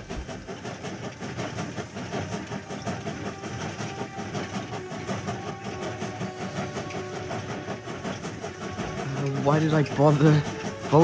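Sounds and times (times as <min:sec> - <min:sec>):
wheels clicking over rails: 0:00.0 - 0:11.0.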